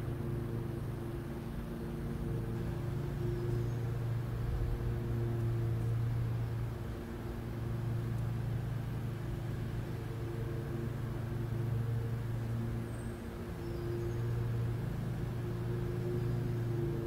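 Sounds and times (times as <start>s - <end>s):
faint steady tones: 0.0s - 17.0s
low mechanical hum: 0.0s - 17.0s.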